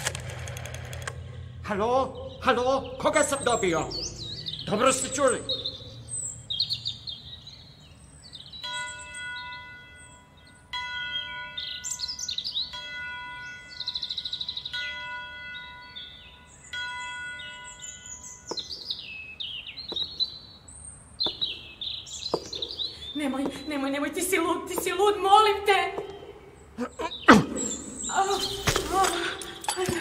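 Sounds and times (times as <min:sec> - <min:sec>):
birds chirping and twittering: 0:01.1 - 0:30.0.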